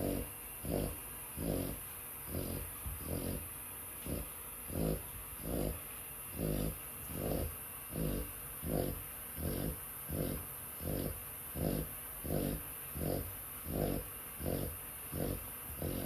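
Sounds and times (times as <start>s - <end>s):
dog snoring: 0.0s - 16.0s.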